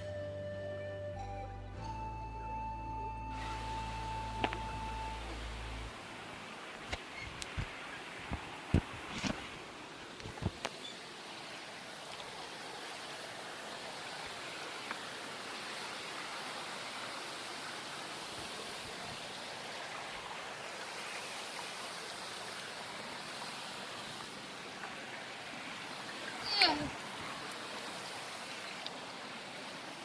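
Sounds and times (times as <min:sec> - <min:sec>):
waterfall roaring: 0:03.3 - 0:30.0.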